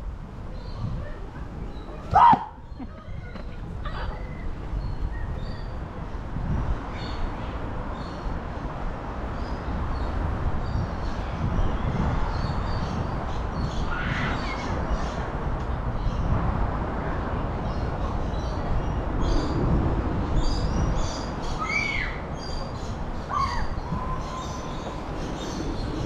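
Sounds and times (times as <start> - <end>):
noisy outdoor background: 0.0 - 26.0.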